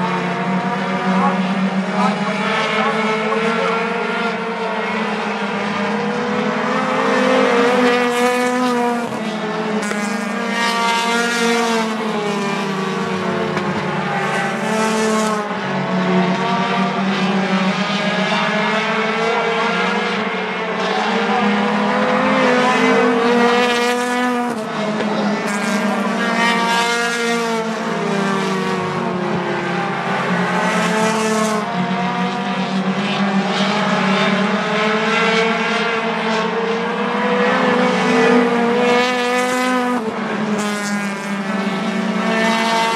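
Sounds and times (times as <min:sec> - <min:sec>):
race car engines revving: 0:00.0 - 0:42.9.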